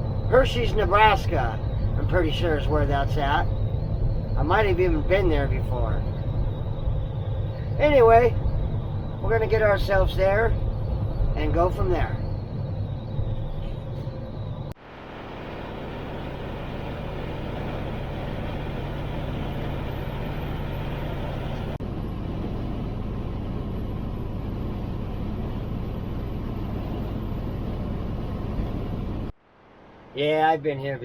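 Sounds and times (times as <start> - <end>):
diesel engine hum: 0.0 - 30.1.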